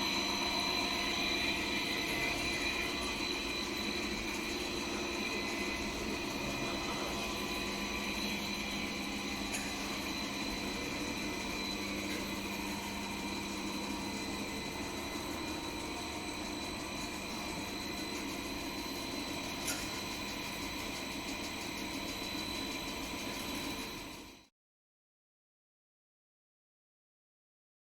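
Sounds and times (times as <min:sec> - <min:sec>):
machine hum with high whine: 0:00.0 - 0:24.5.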